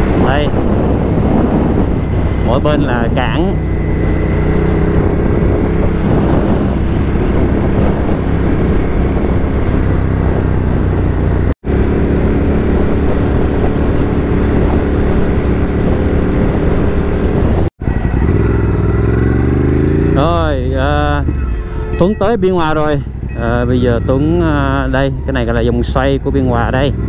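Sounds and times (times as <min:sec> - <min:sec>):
motorcycle engine cruising: 0:00.0 - 0:27.0.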